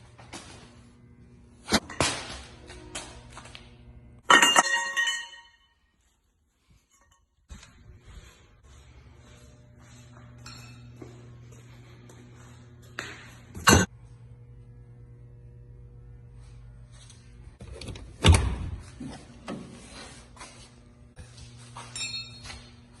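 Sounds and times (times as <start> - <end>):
electrical hum: 0.0 - 4.3, 7.4 - 23.0.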